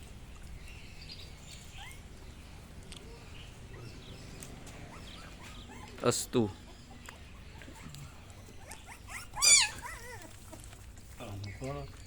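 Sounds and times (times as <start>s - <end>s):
small animals chirping: 0.4s - 12.0s.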